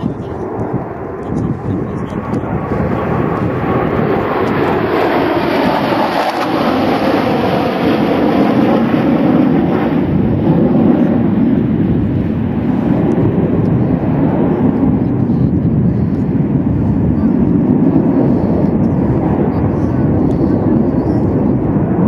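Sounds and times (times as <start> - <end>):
fighter jets flying low: 0.0 - 22.0.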